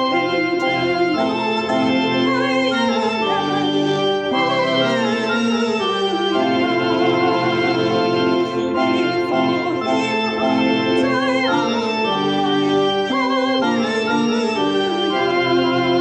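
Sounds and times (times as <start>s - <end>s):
organ playing hymn chords: 0.0s - 16.0s.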